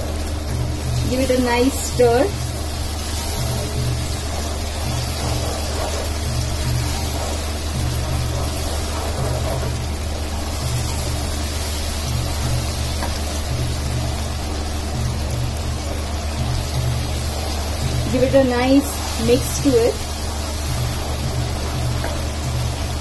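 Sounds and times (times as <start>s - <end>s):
low hum: 0.0s - 23.0s
masala hissing in a hot pan: 0.0s - 23.0s.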